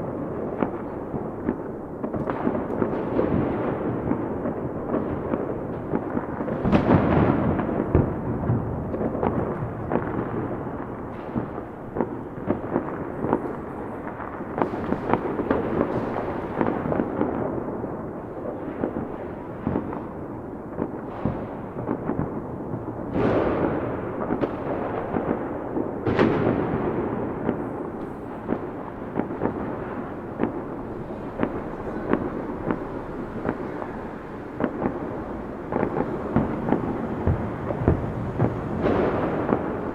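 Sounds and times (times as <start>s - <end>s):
firework bursts with rumbling echo: 0.0s - 39.9s
fireworks crackling: 0.0s - 39.9s.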